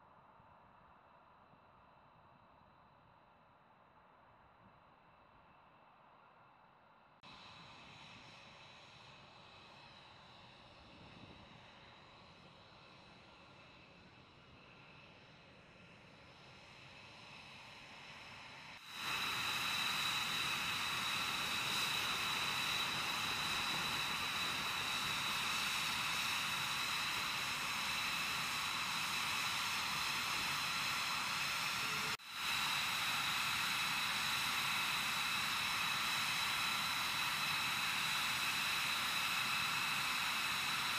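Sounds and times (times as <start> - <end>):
jet engines idling: 7.3 - 40.9.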